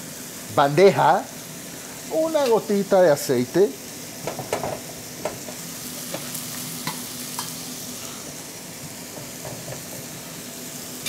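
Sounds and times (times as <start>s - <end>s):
onion and pork frying sizzle: 0.0s - 11.0s.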